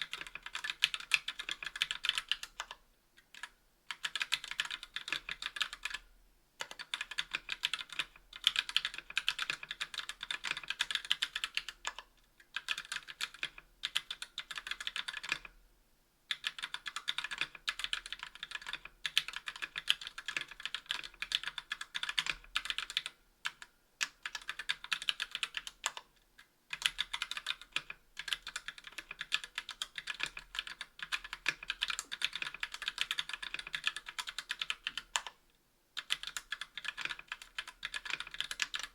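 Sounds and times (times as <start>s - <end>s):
typing on mechanical keyboard: 0.0s - 6.0s, 6.6s - 15.5s, 16.3s - 26.1s, 26.7s - 35.4s, 36.0s - 38.9s.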